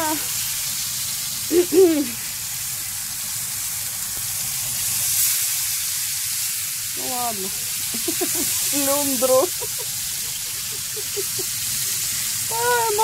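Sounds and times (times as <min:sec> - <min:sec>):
oil sizzling in a frying pan: 0:00.0 - 0:13.0.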